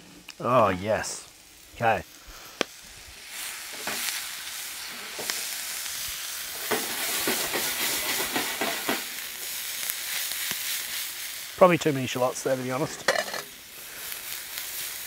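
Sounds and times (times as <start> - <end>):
shallots sizzling in a pan: 0.0 - 15.0.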